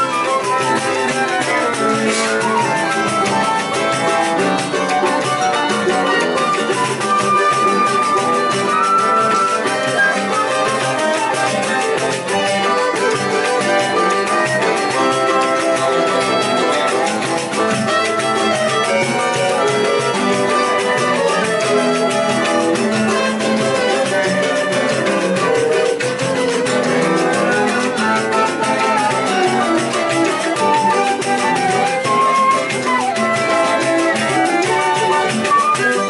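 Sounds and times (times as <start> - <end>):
accordion: 0.0 - 36.0
cello: 0.0 - 36.0
flutes: 0.0 - 36.0
pandeiro rhythm: 0.0 - 36.0
strummed and picked guitars: 0.0 - 36.0.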